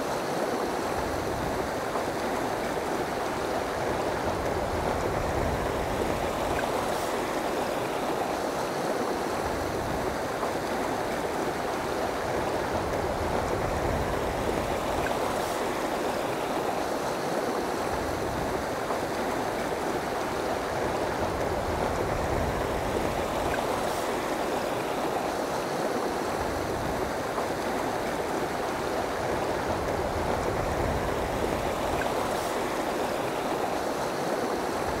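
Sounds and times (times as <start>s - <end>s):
river water rushing over rocks: 0.0s - 35.0s.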